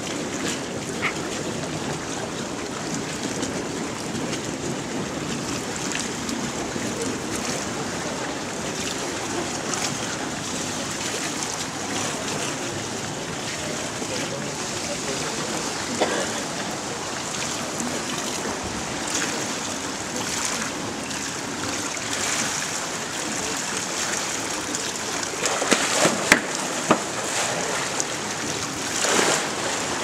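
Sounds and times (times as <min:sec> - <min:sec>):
water splashes: 0:00.0 - 0:30.0
pool water hissing: 0:05.1 - 0:30.0.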